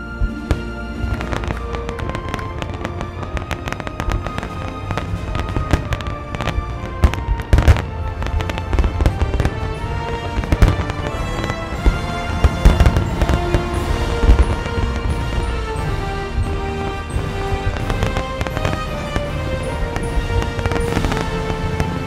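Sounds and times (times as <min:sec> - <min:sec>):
fireworks exploding: 0:00.0 - 0:22.0
music: 0:00.0 - 0:22.0.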